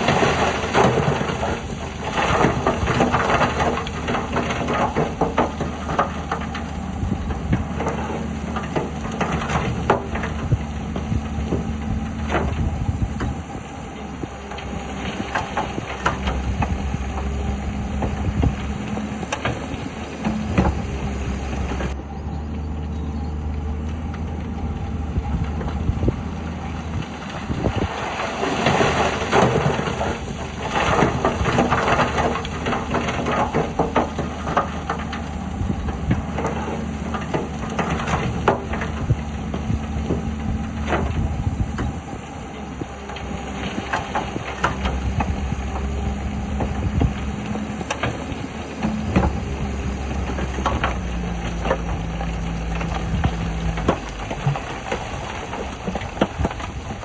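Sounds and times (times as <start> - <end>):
tracks clanking and knocking: 0.0 - 22.0, 25.2 - 57.0
bulldozer diesel engine running: 0.0 - 57.0.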